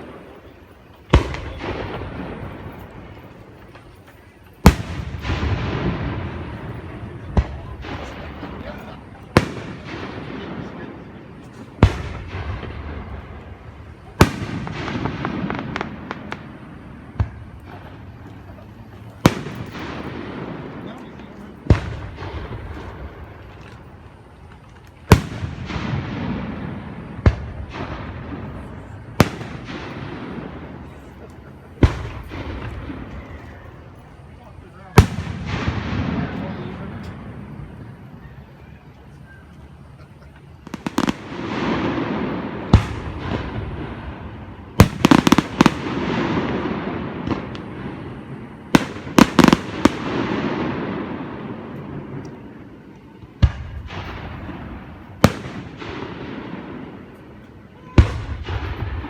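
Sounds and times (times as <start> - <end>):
echo of firework bursts: 0.0 - 59.0.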